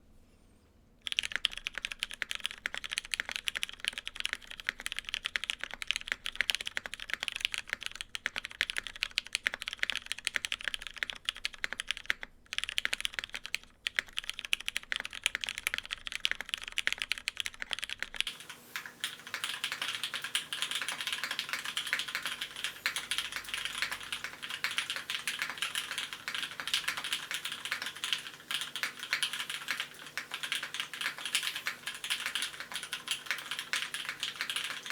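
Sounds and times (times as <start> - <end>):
fast typing on mechanical keyboard: 1.0 - 34.9.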